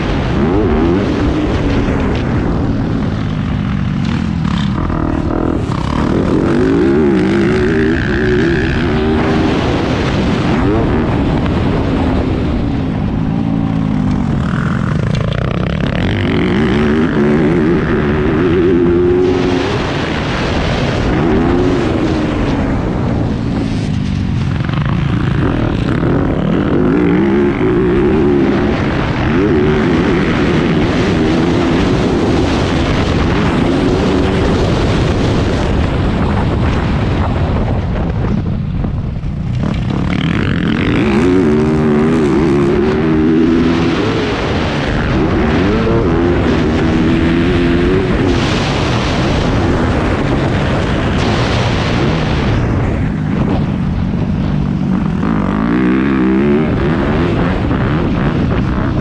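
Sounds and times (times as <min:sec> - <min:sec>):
motorcycle engine revving hard: 0:00.0 - 0:38.4, 0:39.2 - 0:59.0
wind rushing over microphone: 0:00.0 - 0:59.0.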